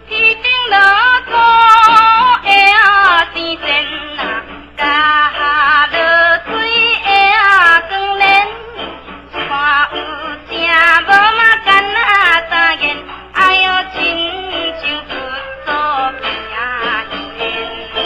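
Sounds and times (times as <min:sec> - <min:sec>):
instrumental accompaniment: 0:00.0 - 0:18.0
person singing with vibrato: 0:00.0 - 0:18.0.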